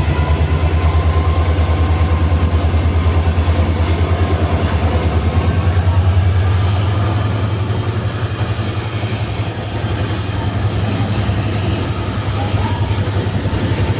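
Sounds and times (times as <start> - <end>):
diesel locomotive engine humming: 0.0 - 13.9.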